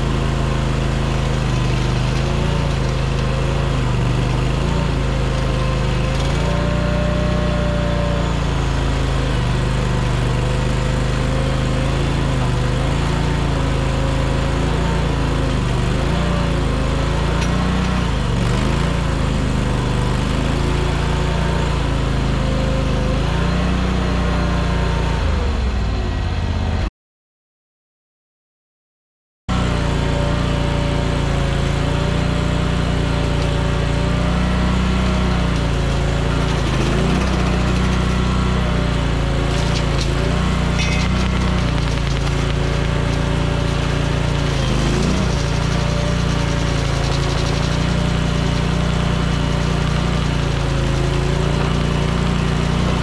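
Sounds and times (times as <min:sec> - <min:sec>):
flail mower cutting brush: 0:00.0 - 0:25.2, 0:29.5 - 0:53.0
engine running under load: 0:00.0 - 0:26.8, 0:29.5 - 0:53.0.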